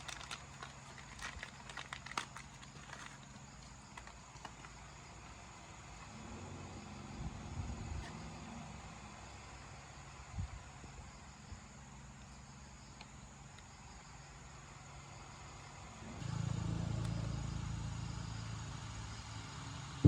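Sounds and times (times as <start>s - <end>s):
motorbike engine idling: 3.2s - 20.0s.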